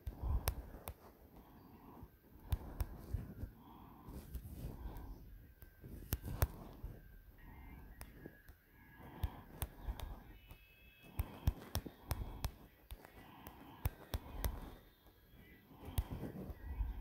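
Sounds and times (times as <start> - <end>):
finger tapping touchscreen: 0.0 - 15.0, 15.7 - 17.0.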